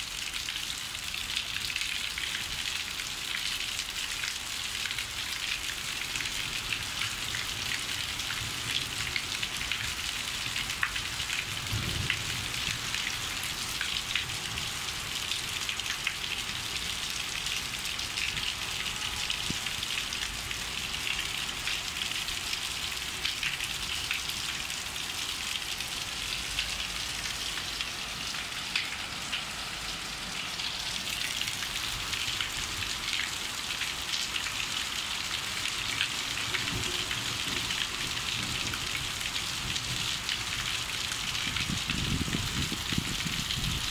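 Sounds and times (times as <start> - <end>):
heavy rain on a roof terrace: 0.0 - 43.9.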